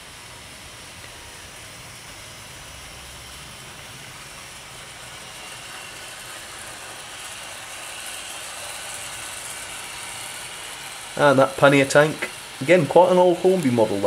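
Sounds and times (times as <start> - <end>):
model train motors whirring: 0.0 - 14.0.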